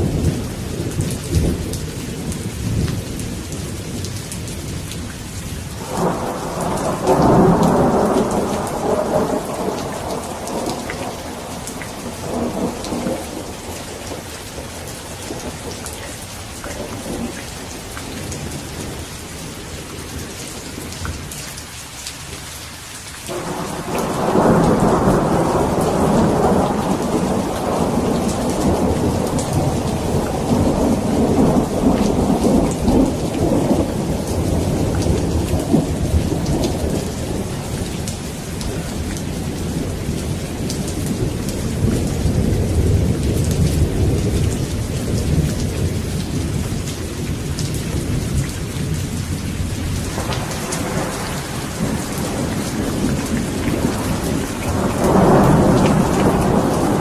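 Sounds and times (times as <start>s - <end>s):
heavy rain falling: 0.0s - 57.0s
rolling thunder: 5.8s - 19.0s, 23.3s - 57.0s.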